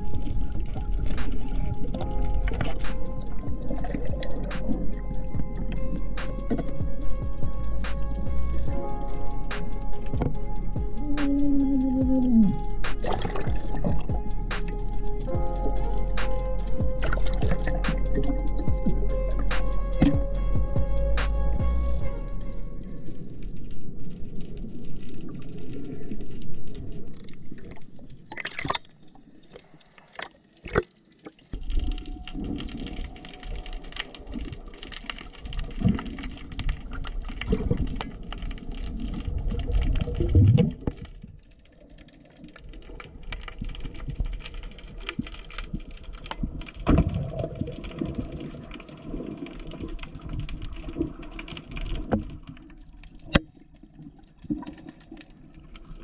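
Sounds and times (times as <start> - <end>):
underwater rushing bubbling water: 0.0 - 7.4, 8.7 - 14.5, 16.9 - 20.2, 23.0 - 56.0.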